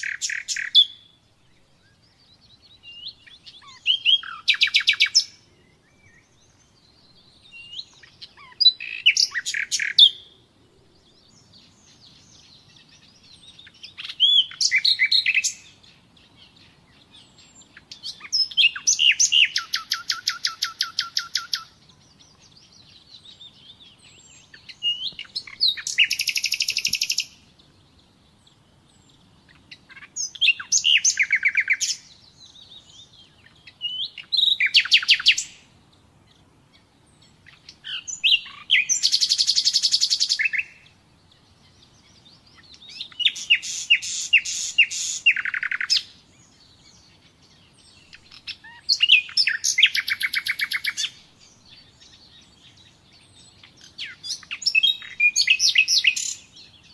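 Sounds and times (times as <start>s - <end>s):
faint high chirping: 0.0s - 56.9s
nightingale singing: 0.0s - 56.9s.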